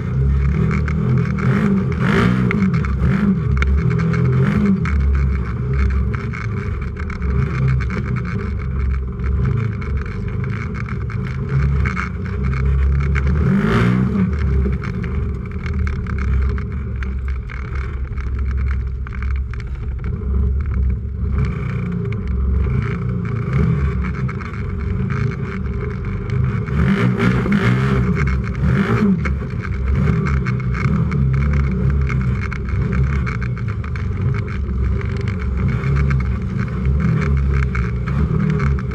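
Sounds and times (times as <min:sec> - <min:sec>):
engine revving: 0:00.0 - 0:38.9.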